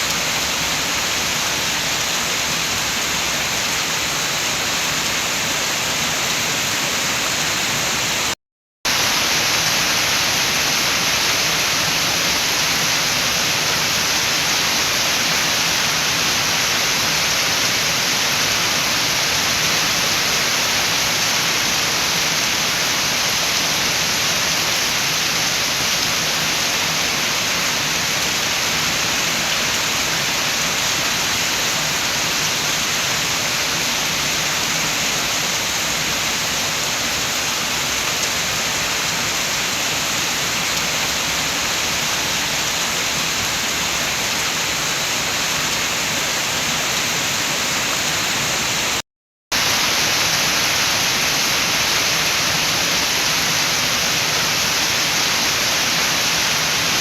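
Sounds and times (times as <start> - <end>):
heavy rain: 0.0 - 57.0
wind: 0.0 - 57.0.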